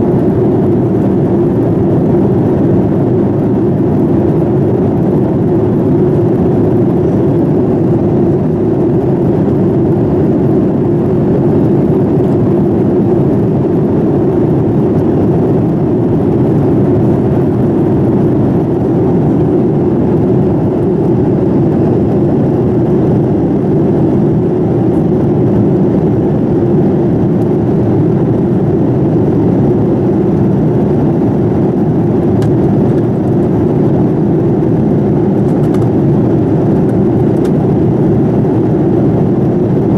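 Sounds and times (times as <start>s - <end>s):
airplane cabin engine noise: 0.0s - 39.9s.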